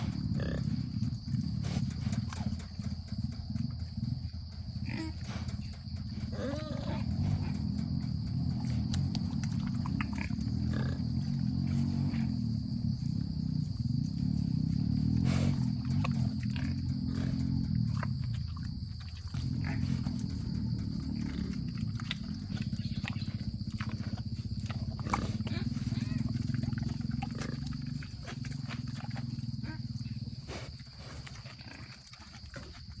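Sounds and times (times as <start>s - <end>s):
pig grunting: 0.0s - 33.0s.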